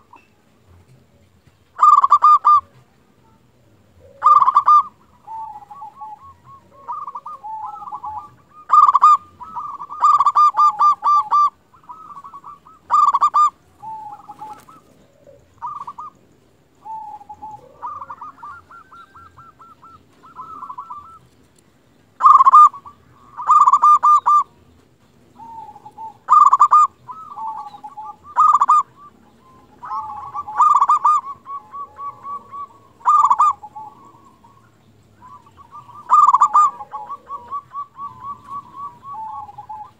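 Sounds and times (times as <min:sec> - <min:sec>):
dove cooing: 0:00.0 - 0:21.5, 0:22.1 - 0:39.9.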